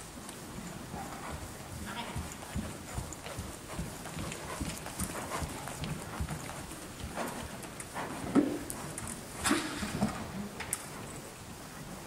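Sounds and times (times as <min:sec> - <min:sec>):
horse hoofbeats trotting: 0:00.0 - 0:12.0.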